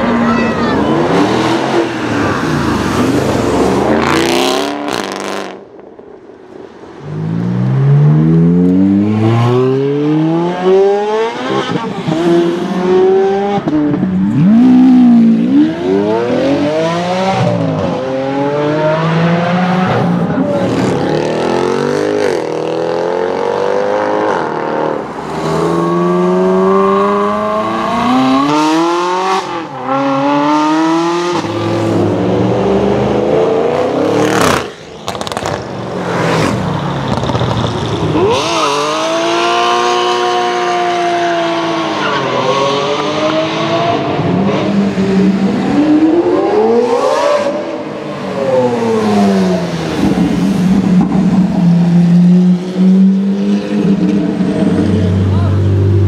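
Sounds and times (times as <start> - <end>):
car engines revving and accelerating: 0.0 - 56.0.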